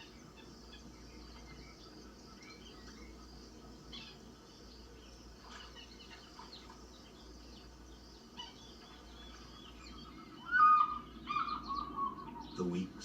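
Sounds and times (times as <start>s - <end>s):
birds chirping: 0.0s - 13.0s
low steady hum: 0.0s - 13.0s.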